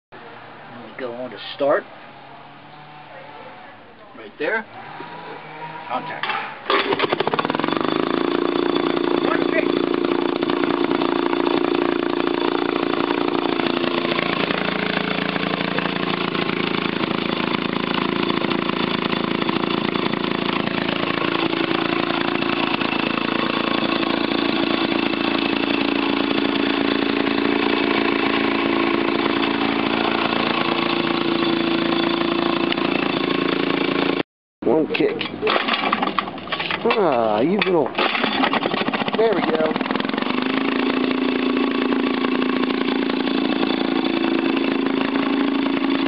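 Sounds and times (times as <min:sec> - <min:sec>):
two-stroke engine running: 0:04.4 - 0:46.0.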